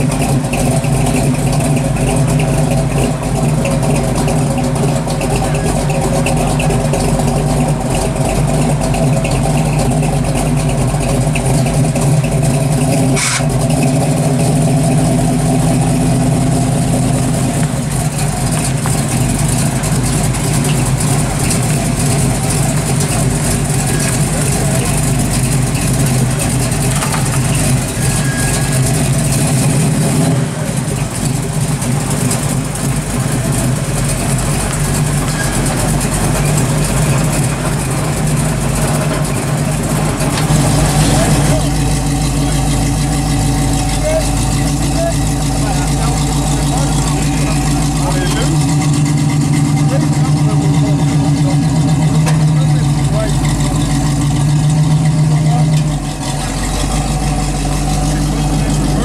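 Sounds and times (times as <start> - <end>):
pickup engine idling: 0.0 - 59.0.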